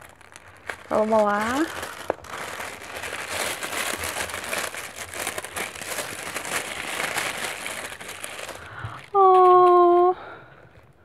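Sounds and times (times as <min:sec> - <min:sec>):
tissue paper crinkling: 0:00.0 - 0:10.8.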